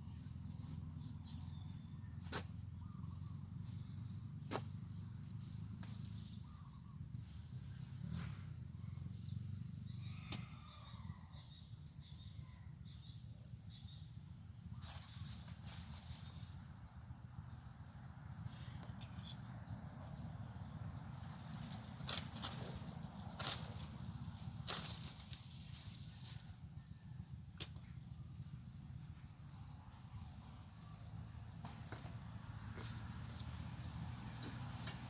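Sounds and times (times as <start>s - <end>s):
high insect hum: 0.0s - 35.0s.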